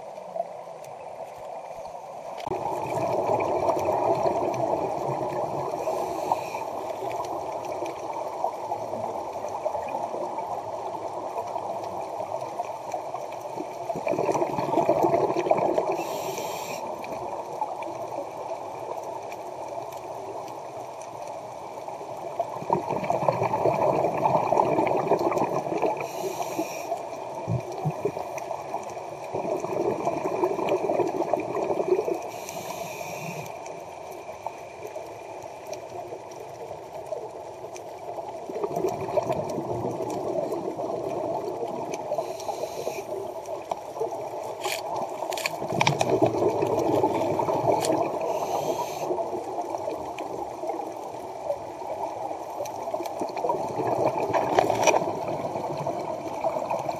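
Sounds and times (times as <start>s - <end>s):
exhaled bubbles gurgling underwater: 0.0s - 56.9s.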